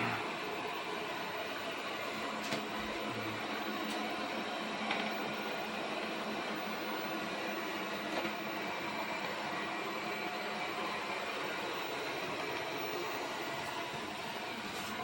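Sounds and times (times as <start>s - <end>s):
robot vacuum cleaner whirring: 0.0s - 15.0s.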